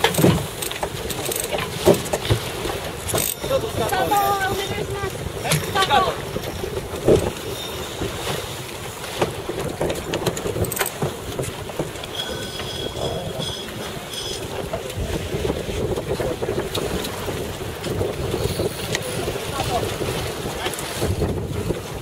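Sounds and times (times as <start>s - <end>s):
water rushing along hull: 0.0s - 22.0s
wind buffeting microphone: 0.0s - 22.0s.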